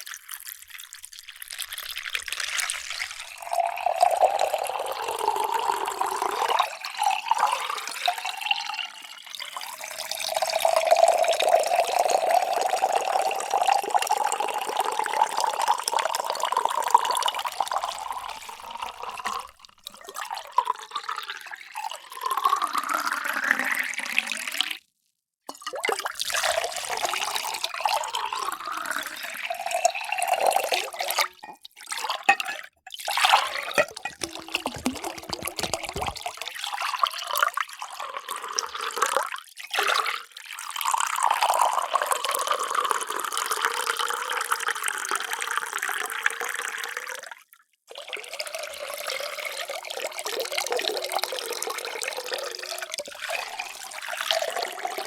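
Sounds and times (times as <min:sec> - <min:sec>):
water pouring into vessel: 0:00.2 - 0:24.7, 0:25.5 - 0:47.2, 0:47.9 - 0:55.0.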